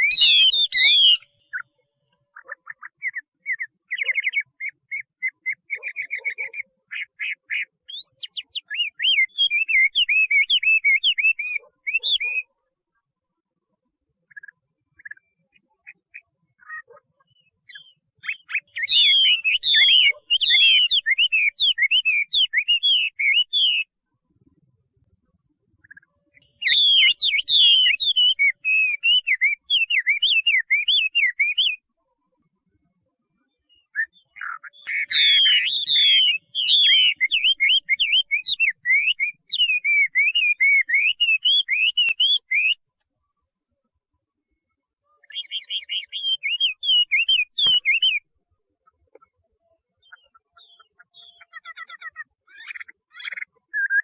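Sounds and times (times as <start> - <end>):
bird singing whistled notes: 0.0 - 12.5, 14.3 - 24.0, 25.8 - 31.9, 33.5 - 42.9, 45.2 - 48.3, 50.0 - 54.0.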